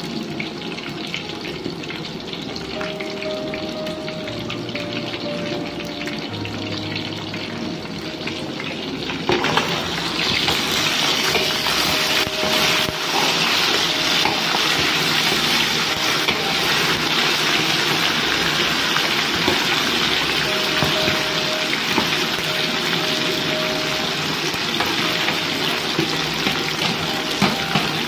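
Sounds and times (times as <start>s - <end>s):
chicken deep-frying in oil: 0.0s - 28.0s.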